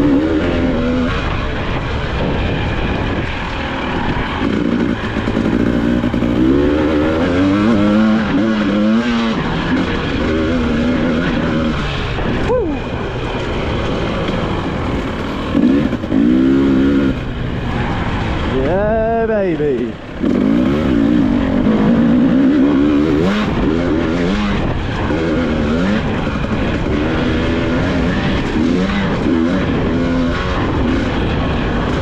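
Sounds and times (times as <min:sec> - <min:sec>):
two-stroke bike engine revving: 0:00.0 - 0:32.0.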